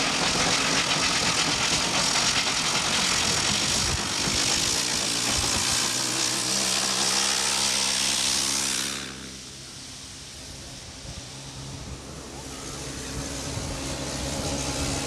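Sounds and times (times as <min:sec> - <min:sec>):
locomotive rushing noise: 0:00.0 - 0:15.0.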